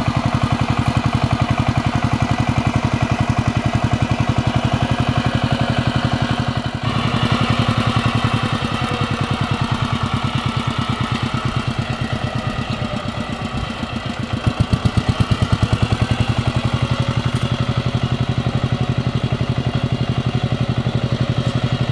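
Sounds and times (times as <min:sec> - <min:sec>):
diesel engine chugging: 0:00.0 - 0:21.9.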